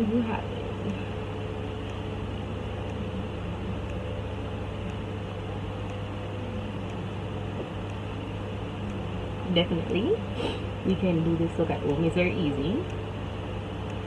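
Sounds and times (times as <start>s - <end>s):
low room hum and hiss: 0.0s - 14.0s.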